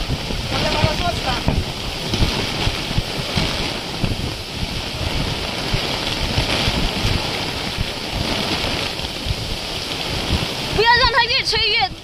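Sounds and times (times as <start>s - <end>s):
heavy rain: 0.0s - 12.0s
wind buffeting microphone: 0.0s - 12.0s.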